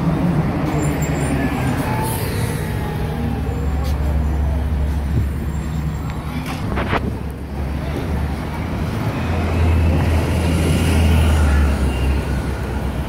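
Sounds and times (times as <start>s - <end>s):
bus engine running: 0.0s - 13.0s
street traffic: 0.0s - 13.0s.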